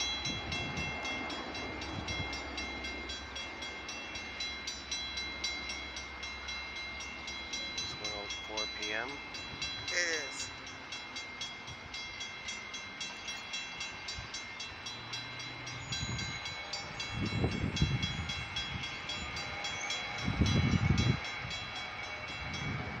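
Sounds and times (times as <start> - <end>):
crossing bells ringing: 0.0 - 23.0.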